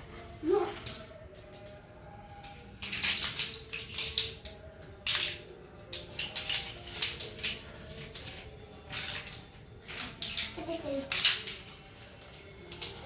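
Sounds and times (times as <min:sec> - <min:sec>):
plastic building blocks clicking: 0:00.7 - 0:13.0.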